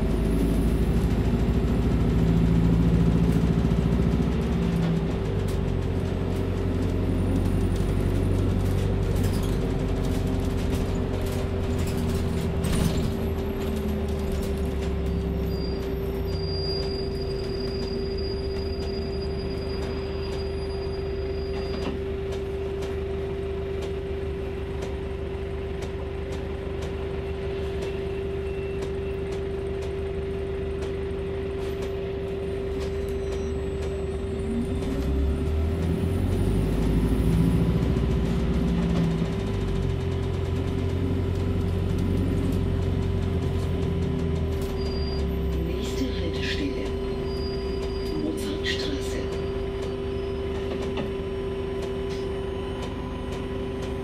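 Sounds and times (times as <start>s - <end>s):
bus drive whine: 0.0s - 54.0s
low drivetrain rumble: 0.0s - 54.0s.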